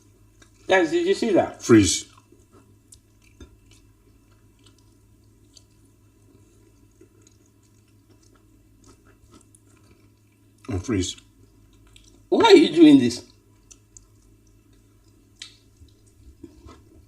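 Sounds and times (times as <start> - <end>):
chewing and wet squishes: 0.0 - 0.7, 1.8 - 17.0.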